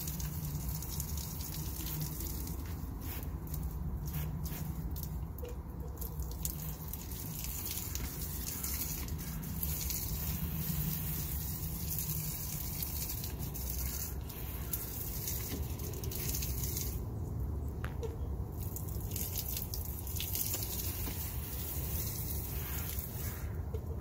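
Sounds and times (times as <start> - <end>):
hose water pattering on gravel: 0.0 - 24.0.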